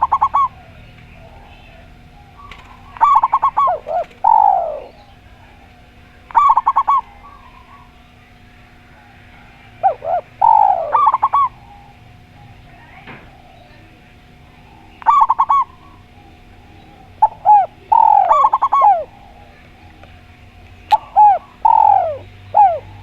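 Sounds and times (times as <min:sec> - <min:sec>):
doves cooing: 0:00.0 - 0:23.0
faint steady hum: 0:00.0 - 0:23.0.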